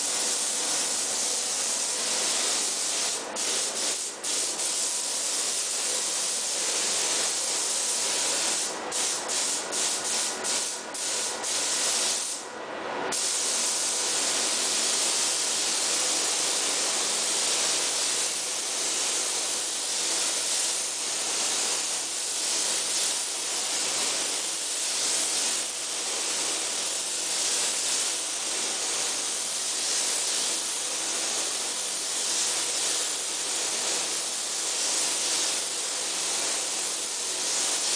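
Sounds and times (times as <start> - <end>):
paint spray gun hissing: 0.0 - 12.4, 13.1 - 37.9.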